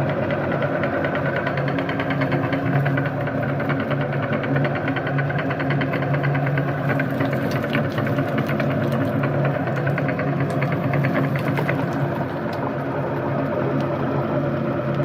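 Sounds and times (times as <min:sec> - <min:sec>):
meat grinder motor hum: 0:00.0 - 0:15.0.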